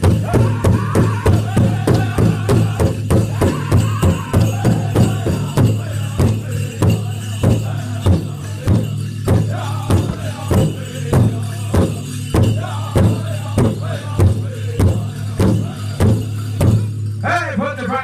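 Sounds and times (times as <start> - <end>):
people singing: 0.0 - 16.7
big drum beating: 0.0 - 17.0.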